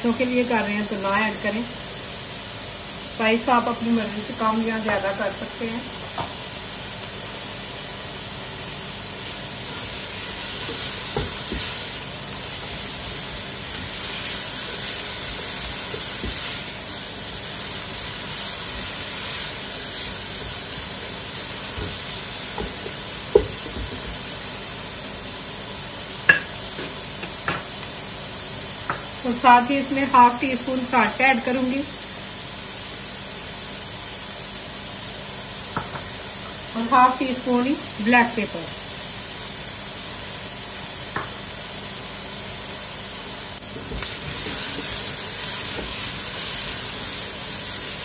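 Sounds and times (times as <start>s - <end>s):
vegetables sizzling in oil: 0.0s - 48.0s.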